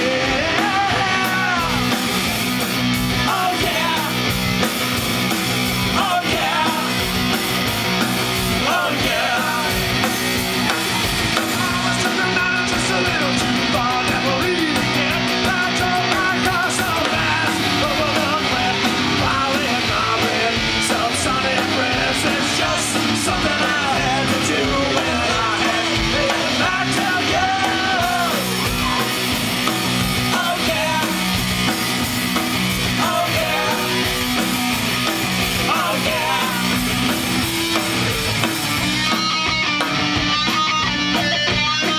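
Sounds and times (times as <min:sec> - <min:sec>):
bass guitar: 0:00.0 - 0:41.9
drum kit: 0:00.0 - 0:41.9
electric guitar: 0:00.0 - 0:41.9.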